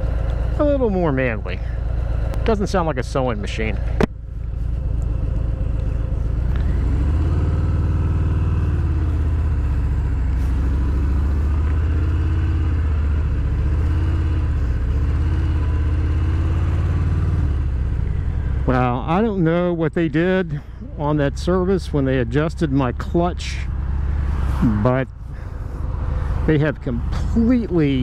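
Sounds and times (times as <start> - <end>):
motorcycle engine rumbling: 0.0 - 28.0.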